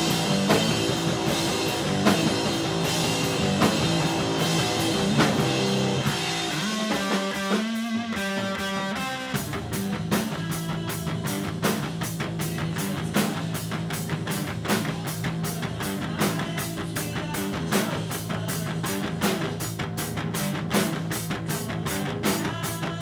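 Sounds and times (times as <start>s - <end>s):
heavy rock music: 0.0s - 23.0s.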